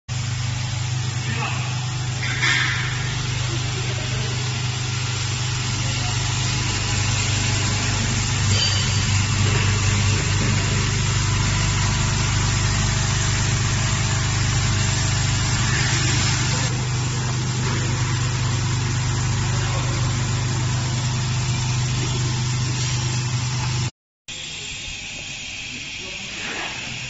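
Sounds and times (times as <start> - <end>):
weighing machine humming: 0.1 - 27.0.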